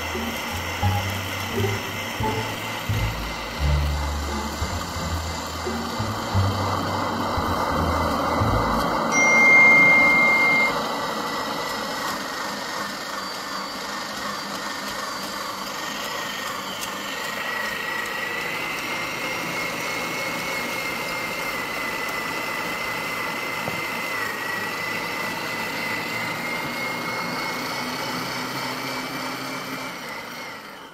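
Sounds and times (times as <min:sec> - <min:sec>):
electric meat grinder whining: 0:00.0 - 0:30.9.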